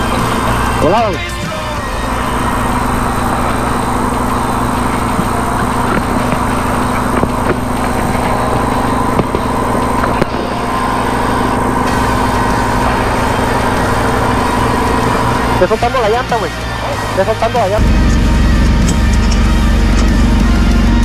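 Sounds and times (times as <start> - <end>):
race car engine running: 0.0 - 21.0.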